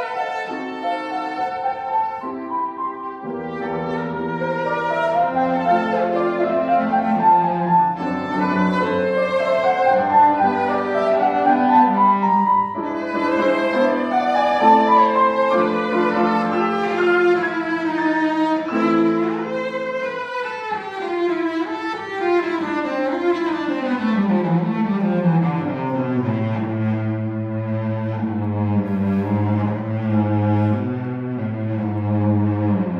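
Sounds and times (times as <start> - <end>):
cellos playing classical music: 0.0 - 32.9.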